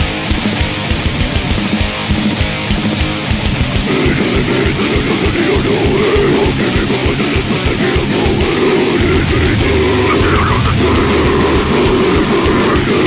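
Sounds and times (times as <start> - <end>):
distorted electric guitars: 0.0 - 13.0
fast dense drumming: 0.0 - 13.0.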